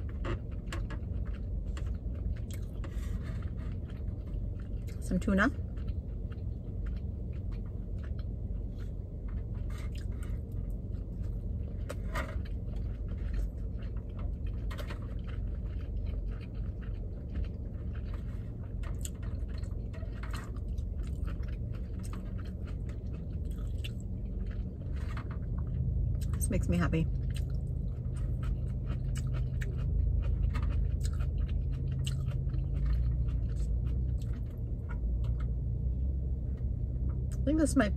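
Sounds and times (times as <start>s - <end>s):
low steady hum: 0.0s - 37.9s.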